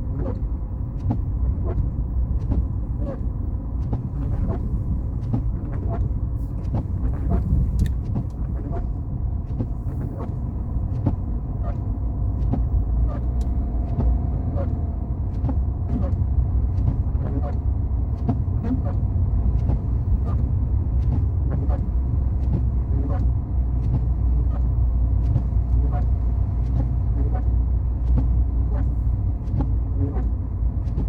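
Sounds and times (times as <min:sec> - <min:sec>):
car driving low rumble: 0:00.0 - 0:31.0.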